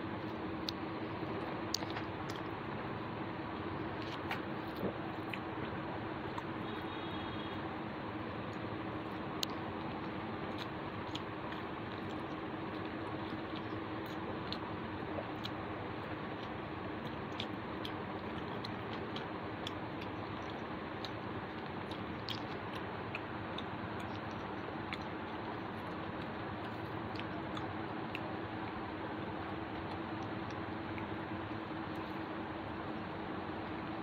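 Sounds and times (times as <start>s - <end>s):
chewing and mouth sounds: 0.1s - 2.7s, 3.6s - 7.3s, 8.4s - 34.0s.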